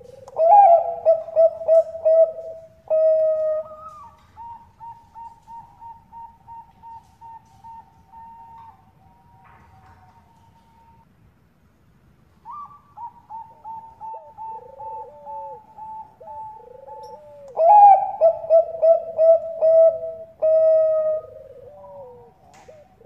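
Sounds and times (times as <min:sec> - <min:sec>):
doves cooing: 0:00.0 - 0:11.0, 0:12.5 - 0:23.0.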